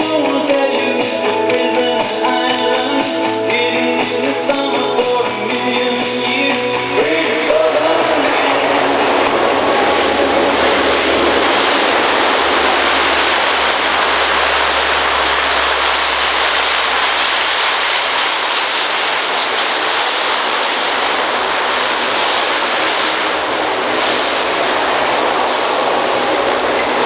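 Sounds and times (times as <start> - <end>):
turboprop engines and propellers running: 0.0 - 27.0.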